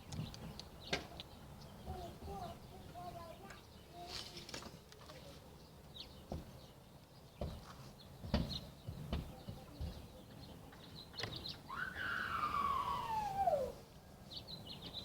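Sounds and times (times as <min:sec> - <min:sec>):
faint bird chirp: 0:00.0 - 0:15.0.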